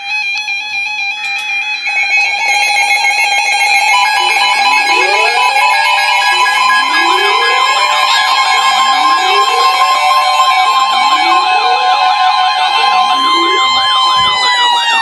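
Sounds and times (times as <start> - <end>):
electronic alarm beeps and tones: 1.8 - 15.0
rising siren-like sweeps: 2.1 - 15.0.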